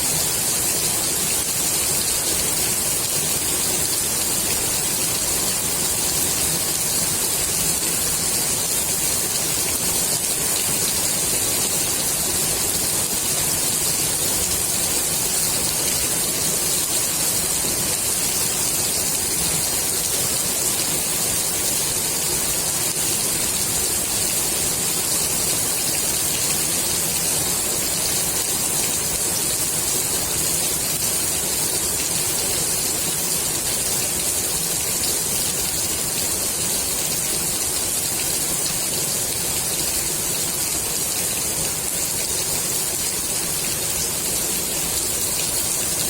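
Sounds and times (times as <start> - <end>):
rain falling on pool water: 0.0 - 46.0.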